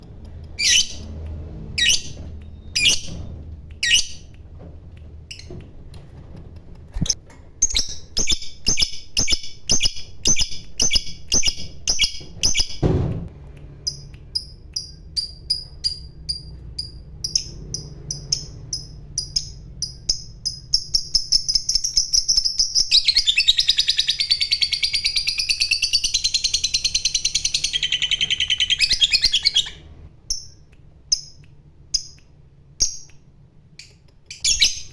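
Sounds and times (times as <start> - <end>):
lovebird chirping: 0.6 - 1.1, 1.8 - 4.3, 7.0 - 12.8, 13.8 - 32.2, 33.8 - 34.9.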